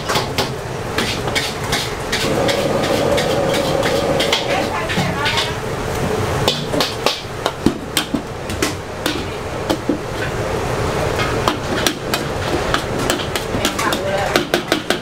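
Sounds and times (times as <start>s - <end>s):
gas burner rushing: 0.0s - 13.5s.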